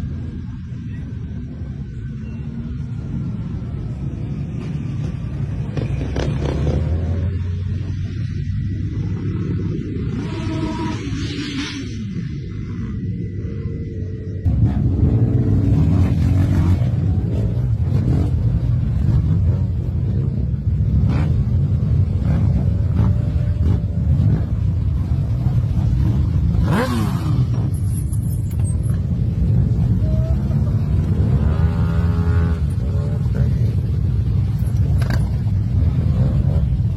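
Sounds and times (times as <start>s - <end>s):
motorcycle engines rumbling: 0.0s - 36.9s
motorcycle engine revving: 5.4s - 13.0s, 14.4s - 36.9s.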